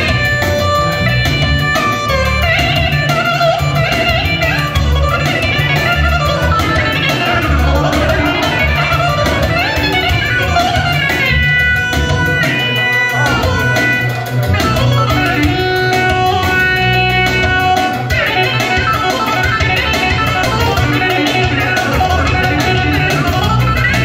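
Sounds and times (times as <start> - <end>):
keyboard solo melody: 0.0 - 24.0
steady drum beat: 0.0 - 24.0.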